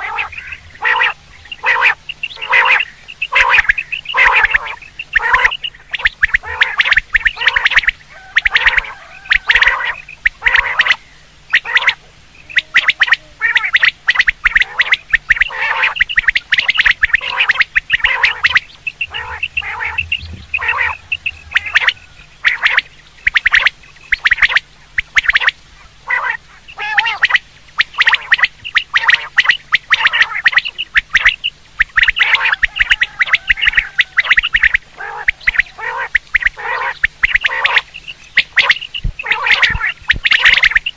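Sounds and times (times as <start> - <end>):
quail calling: 0.0 - 40.9.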